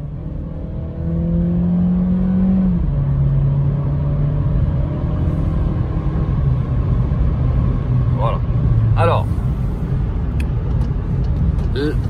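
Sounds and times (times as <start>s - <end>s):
car engine accelerating from cabin: 0.0s - 12.0s.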